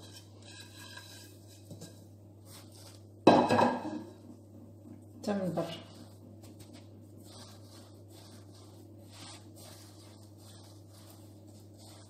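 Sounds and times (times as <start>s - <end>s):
hands rolling dough: 0.0s - 12.0s
steady low hum: 0.0s - 12.0s.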